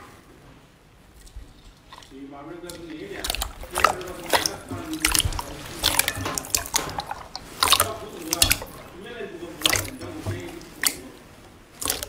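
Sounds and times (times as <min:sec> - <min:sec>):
slime squelching by hand: 0:01.1 - 0:12.0.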